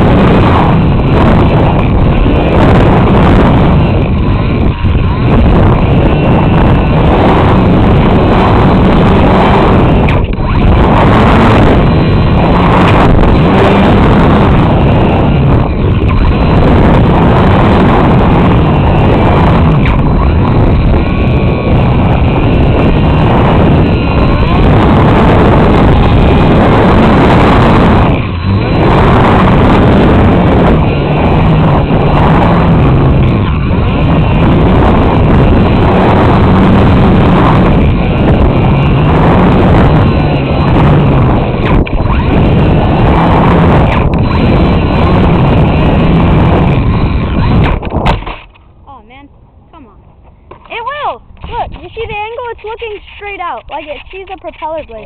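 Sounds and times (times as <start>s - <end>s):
electric motor and propeller whine: 0.0s - 55.0s
wind buffeting microphone: 0.0s - 55.0s.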